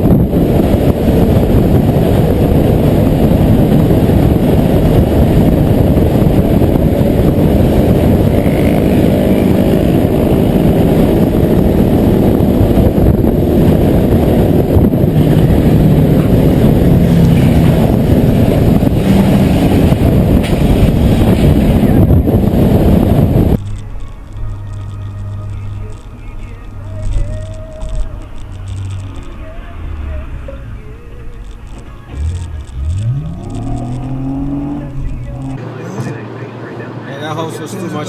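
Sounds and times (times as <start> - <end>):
moving vehicle rumble: 0.0 - 38.0.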